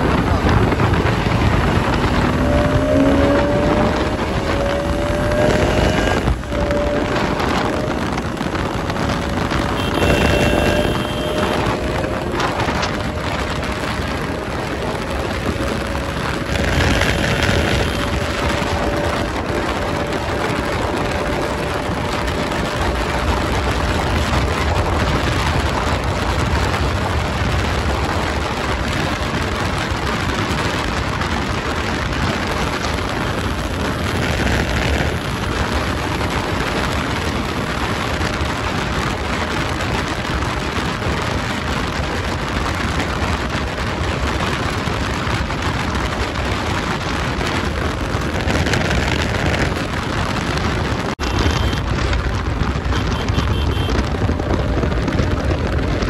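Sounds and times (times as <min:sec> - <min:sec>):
motorcycle engine at speed: 0:00.0 - 0:56.0
wind over microphone: 0:00.0 - 0:56.0.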